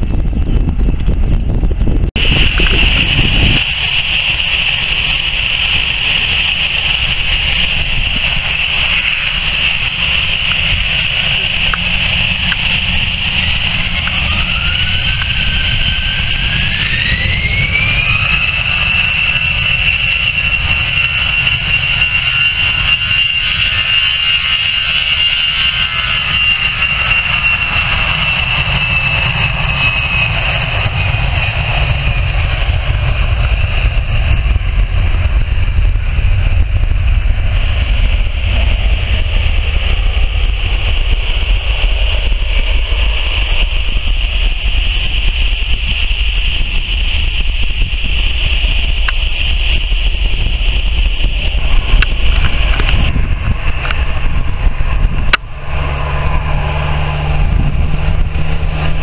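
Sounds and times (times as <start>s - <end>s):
jet engine whine: 0.0s - 59.0s
low jet rumble: 0.0s - 59.0s.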